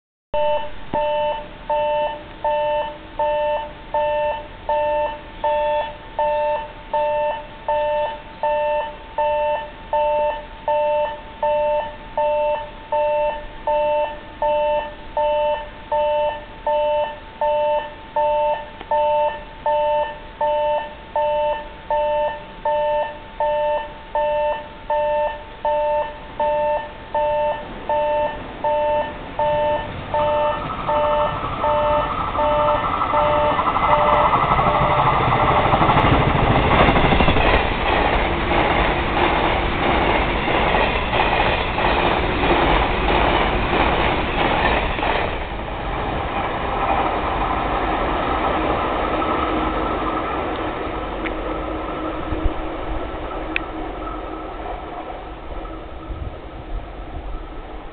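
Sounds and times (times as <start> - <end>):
railway warning bell ringing: 0.4 - 46.0, 49.2 - 57.6.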